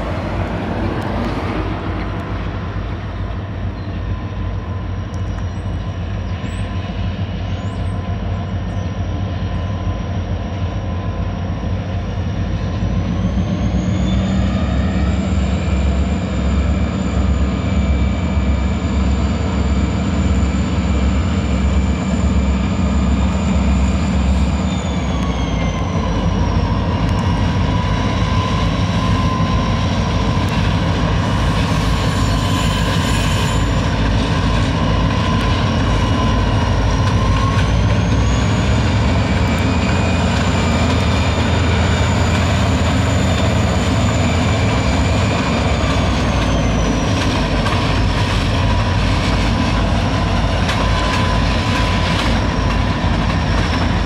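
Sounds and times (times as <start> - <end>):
diesel locomotive engines rumbling: 0.0 - 54.0
train wheels rolling on rails: 0.0 - 54.0.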